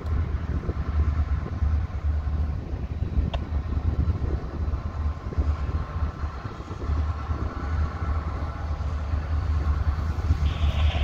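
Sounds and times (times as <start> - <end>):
distant locomotive engine running: 0.0 - 11.0
wind buffeting microphone: 0.0 - 11.0.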